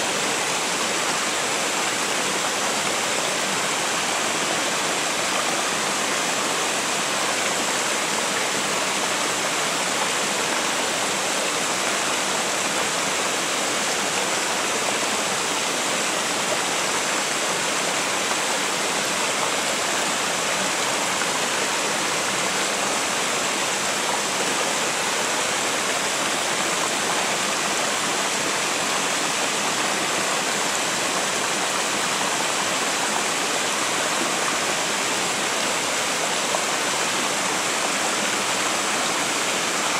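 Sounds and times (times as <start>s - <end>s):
river rushing over weir: 0.0s - 39.9s.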